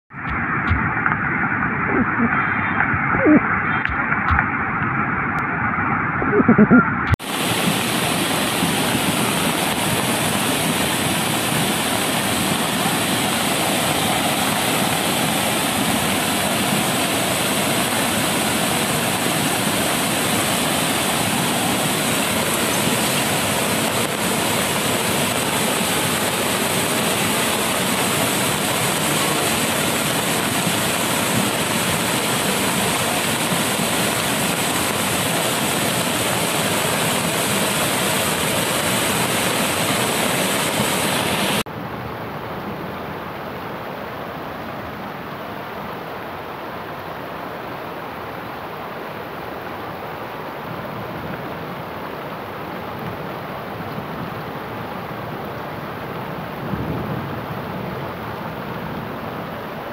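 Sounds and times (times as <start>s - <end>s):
floodwater rushing down a channel: 0.1s - 59.9s.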